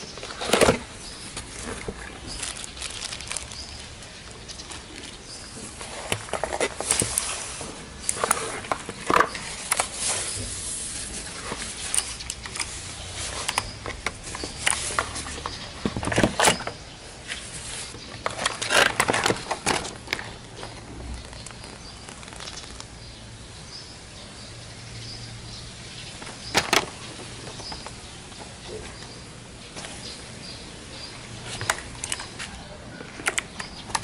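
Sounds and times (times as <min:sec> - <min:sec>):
packaging crackling and rustling: 0:00.0 - 0:23.1, 0:26.1 - 0:34.0.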